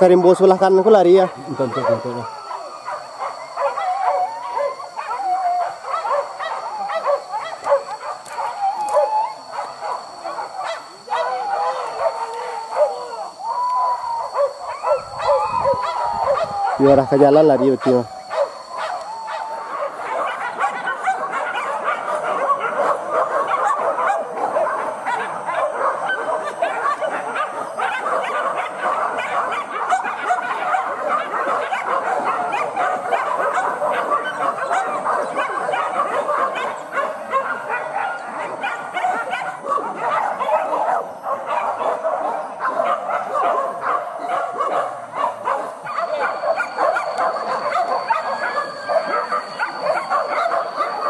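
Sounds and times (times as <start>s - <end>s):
dogs barking and yelping: 0.0s - 51.0s.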